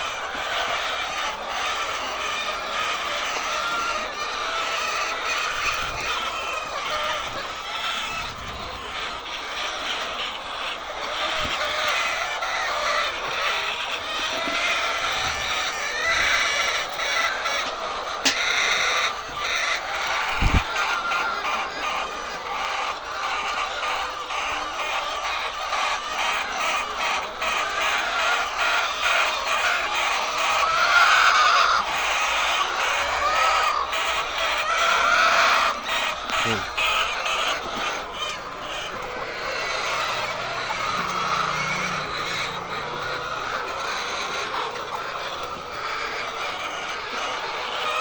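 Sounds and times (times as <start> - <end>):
drawn-out chicken calls: 0.0 - 48.0
flock of chickens calling: 0.0 - 48.0
hens clucking and squawking: 0.0 - 48.0.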